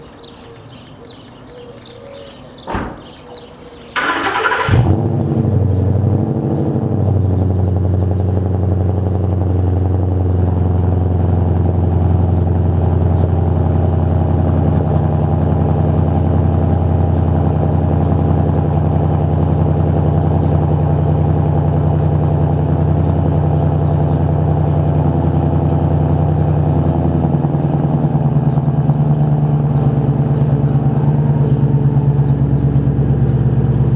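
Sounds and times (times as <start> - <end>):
car engine starting and idling: 2.3 - 33.9.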